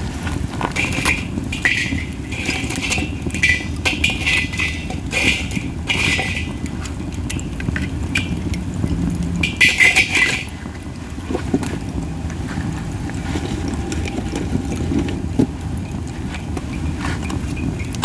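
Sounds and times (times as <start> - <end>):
campfire hissing and crackling: 0.0 - 18.0
wind rumble on microphone: 0.0 - 18.0.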